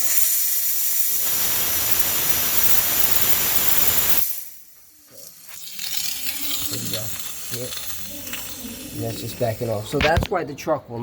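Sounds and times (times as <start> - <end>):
compressed air hissing: 0.0 - 10.0.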